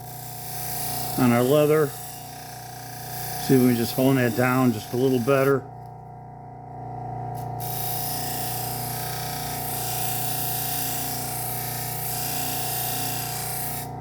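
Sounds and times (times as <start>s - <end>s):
knife rubbing on stropping wheel: 0.0s - 5.7s, 7.6s - 14.0s
motor hum: 0.0s - 14.0s.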